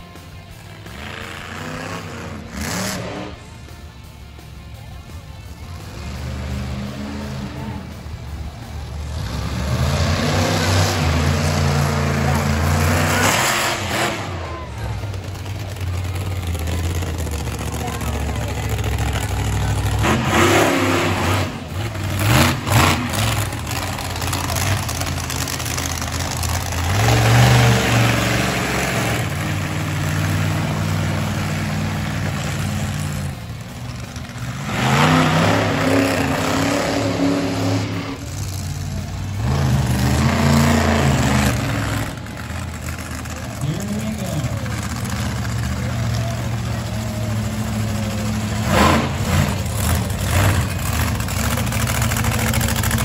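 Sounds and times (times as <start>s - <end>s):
monster truck engine revving: 0.0s - 53.0s.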